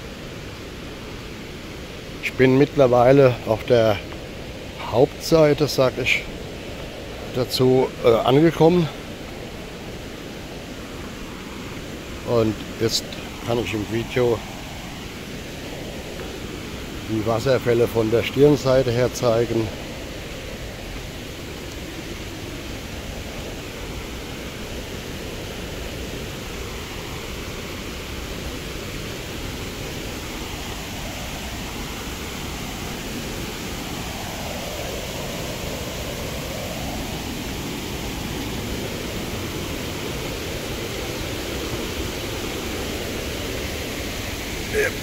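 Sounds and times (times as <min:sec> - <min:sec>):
small waterfall rushing: 0:00.0 - 0:45.0.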